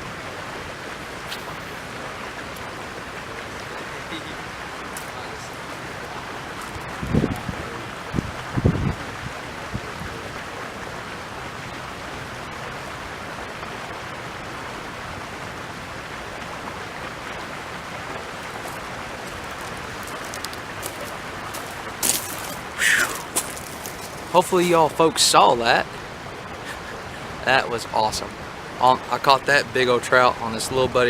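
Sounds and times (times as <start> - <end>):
stream water rushing: 0.0 - 30.7.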